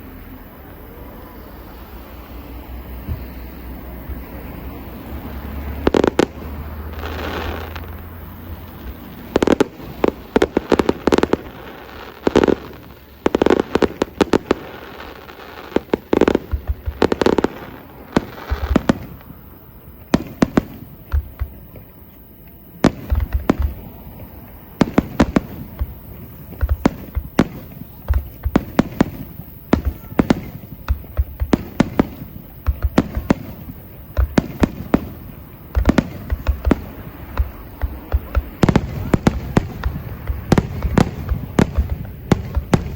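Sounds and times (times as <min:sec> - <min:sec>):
fireworks bangs: 0:00.0 - 0:42.9
fireworks hissing crackle: 0:00.0 - 0:42.9.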